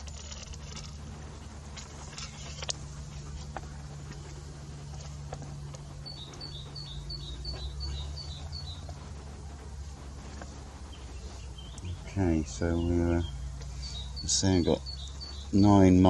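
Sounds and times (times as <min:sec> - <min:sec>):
bird chirping: 0:00.0 - 0:16.0
low wind rumble: 0:00.0 - 0:16.0.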